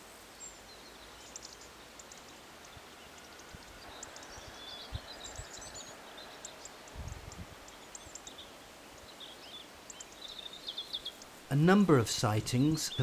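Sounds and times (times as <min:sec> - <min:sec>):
faint outdoor hiss: 0:00.0 - 0:13.0
small birds chirping: 0:00.0 - 0:13.0.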